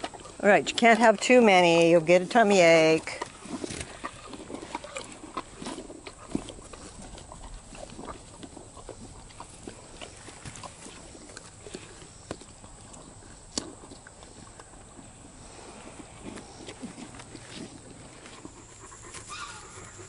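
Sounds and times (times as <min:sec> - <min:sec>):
donkeys chewing: 0:00.0 - 0:20.0.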